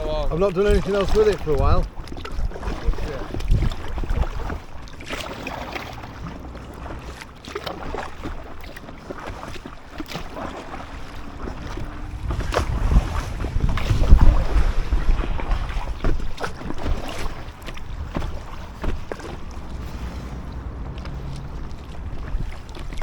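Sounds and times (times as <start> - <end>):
water splashing around kayak: 0.0 - 23.0
wind buffeting microphone: 0.0 - 23.0.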